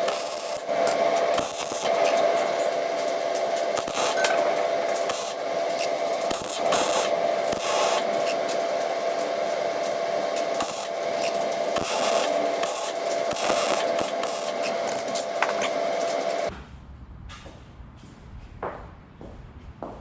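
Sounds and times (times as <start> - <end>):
welding arc crackling and hissing: 0.0 - 16.5.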